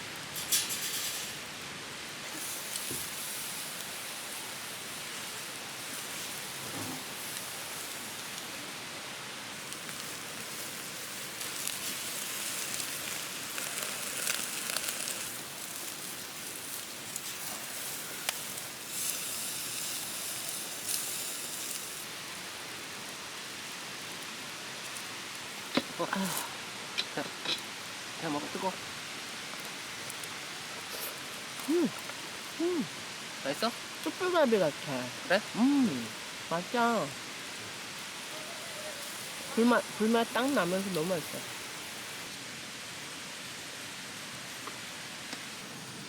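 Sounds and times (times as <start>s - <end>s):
meat sizzling over charcoal: 0.0s - 46.0s.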